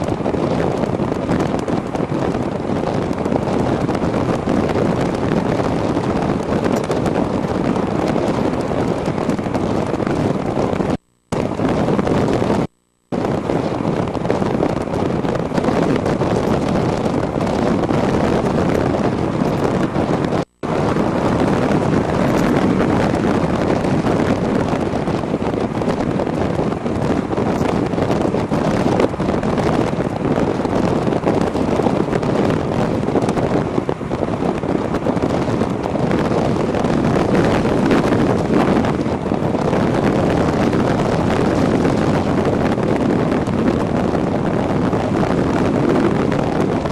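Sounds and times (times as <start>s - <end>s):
road and drive noise: 0.0s - 46.9s
wind rushing over microphone: 0.0s - 46.9s.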